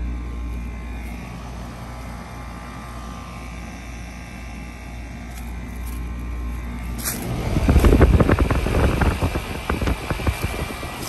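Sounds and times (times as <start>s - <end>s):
heat pump compressor and fan hum: 0.0s - 11.0s.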